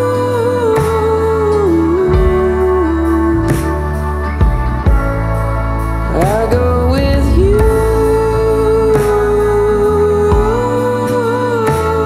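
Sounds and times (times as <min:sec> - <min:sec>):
steady low bass: 0:00.0 - 0:12.0.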